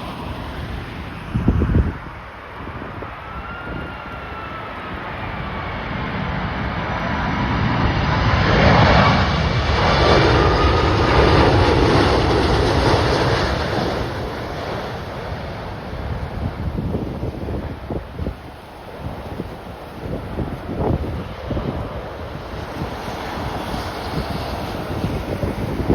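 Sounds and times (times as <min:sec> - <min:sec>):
jet engine whine: 0:00.0 - 0:25.9
jet plane rumble: 0:00.0 - 0:25.9
wind buffeting microphone: 0:00.0 - 0:25.9.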